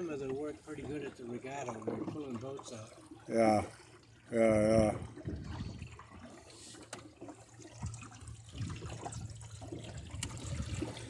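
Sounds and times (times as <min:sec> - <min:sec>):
water lapping along hull: 0:00.0 - 0:11.0.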